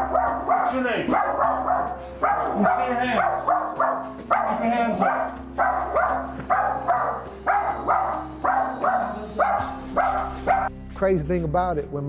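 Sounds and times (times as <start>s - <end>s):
dog barking: 0.0s - 10.7s.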